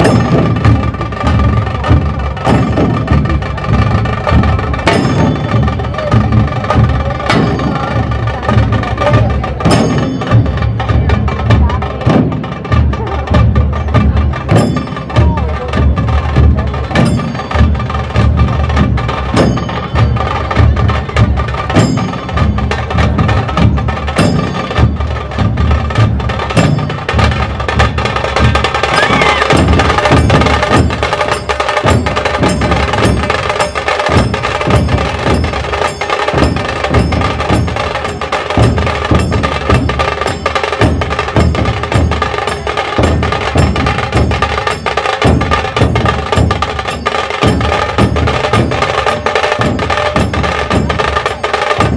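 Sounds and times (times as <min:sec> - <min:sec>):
dhol drums pounding: 0:00.0 - 0:51.9
metallic ringing: 0:02.2 - 0:11.5, 0:14.4 - 0:51.9.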